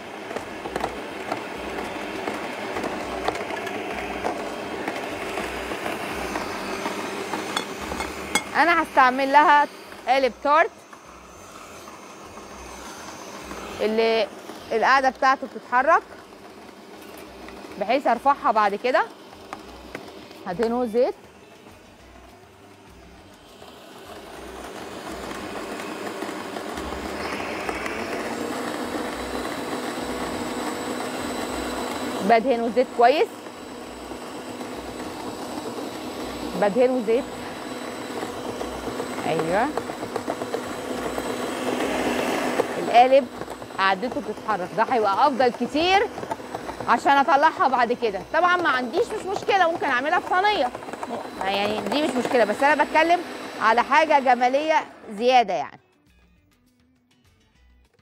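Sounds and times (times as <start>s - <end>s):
stand mixer motor running: 0.0s - 55.4s.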